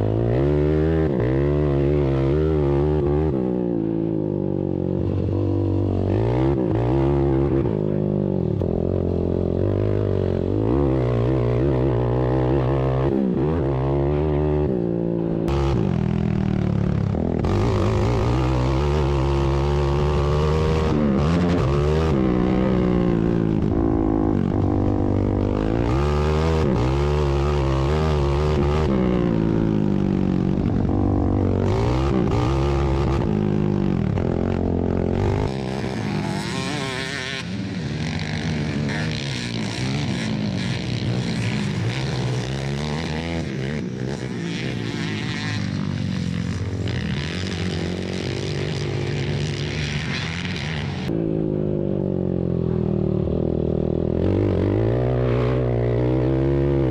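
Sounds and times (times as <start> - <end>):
atv engines revving: 0.0 - 56.9.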